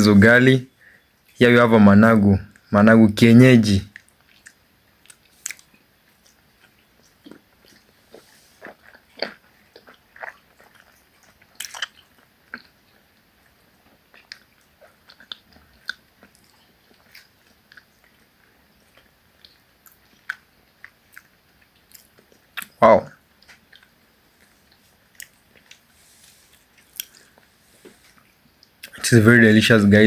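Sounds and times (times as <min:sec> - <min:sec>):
person chewing food: 0:03.9 - 0:29.0.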